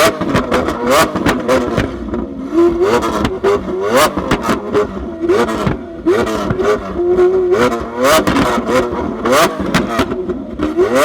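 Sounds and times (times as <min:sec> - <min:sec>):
exhaust pops and bangs: 0:00.0 - 0:11.0
sports car engine revving: 0:00.0 - 0:11.0.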